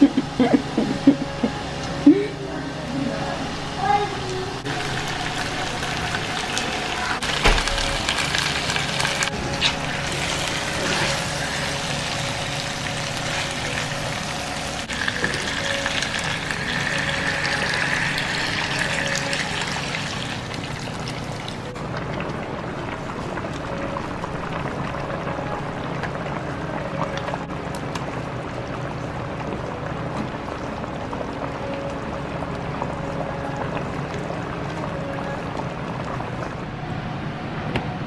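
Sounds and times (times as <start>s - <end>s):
soup bubbling at the boil: 4.6s - 36.7s.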